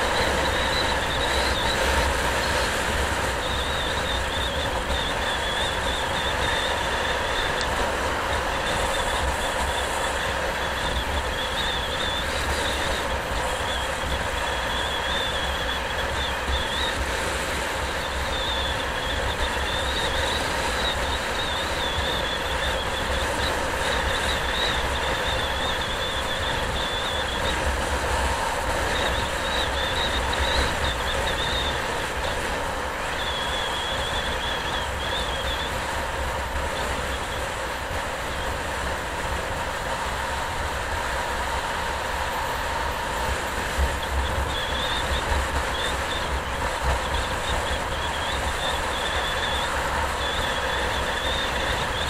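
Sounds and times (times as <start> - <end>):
wavering high whine: 0.0 - 52.0
wind and road noise: 0.0 - 52.0.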